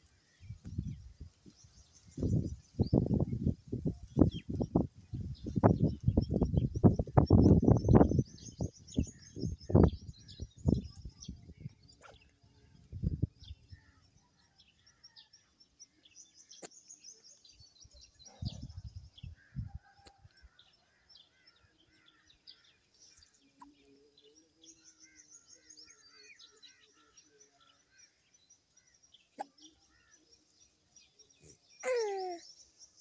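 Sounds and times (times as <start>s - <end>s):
small birds chirping: 0.0s - 20.5s, 21.1s - 33.0s.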